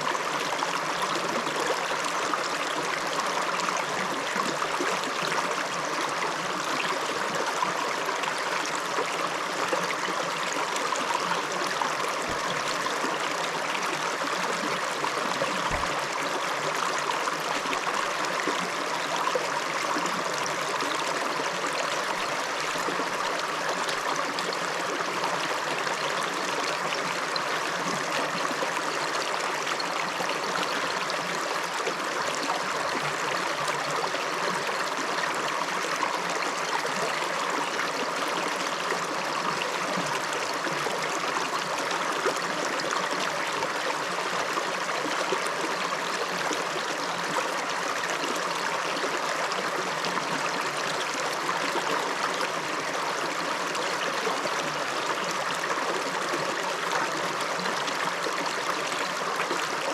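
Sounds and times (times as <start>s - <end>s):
river flowing over stones: 0.0s - 59.9s.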